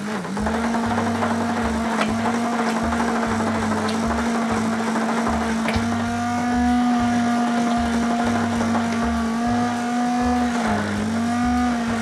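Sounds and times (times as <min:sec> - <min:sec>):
immersion blender running: 0:00.0 - 0:12.0.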